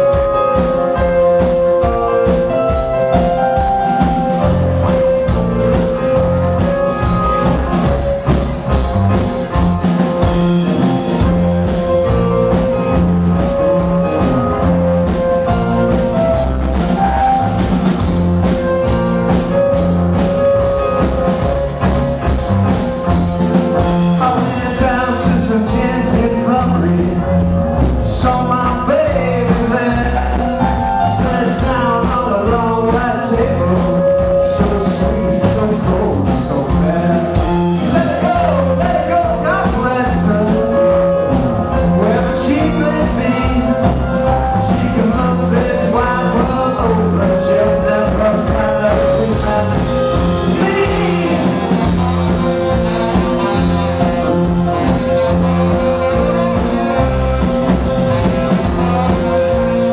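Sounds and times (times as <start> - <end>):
band playing slow blues: 0.0 - 59.9
drum kit with cymbals: 0.0 - 59.9.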